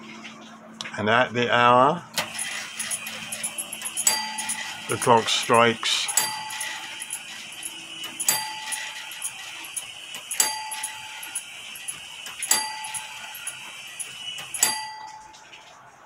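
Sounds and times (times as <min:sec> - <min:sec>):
clock mechanism clicking: 0:02.2 - 0:15.3
clock bell striking: 0:02.2 - 0:15.5.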